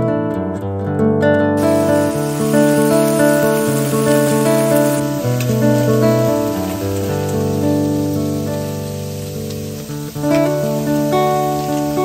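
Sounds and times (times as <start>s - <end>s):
acoustic guitar music: 0.0s - 12.0s
meat sizzling in a frying pan: 1.6s - 12.0s.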